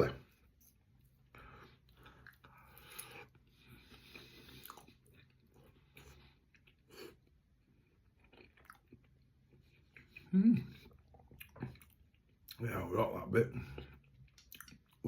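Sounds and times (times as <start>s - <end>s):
person chewing food: 0.2s - 12.6s, 13.6s - 15.0s.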